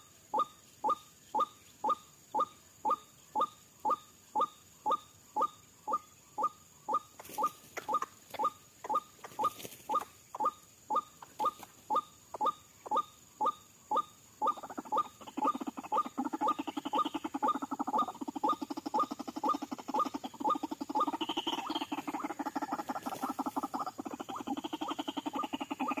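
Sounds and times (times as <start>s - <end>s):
waterhen croaking calls: 0.0s - 26.0s.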